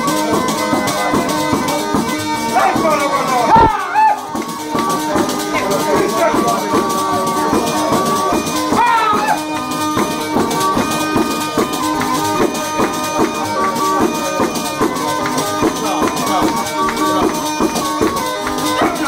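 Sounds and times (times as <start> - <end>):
folk dance melody: 0.0 - 19.0
jingling percussion beat: 0.0 - 19.0.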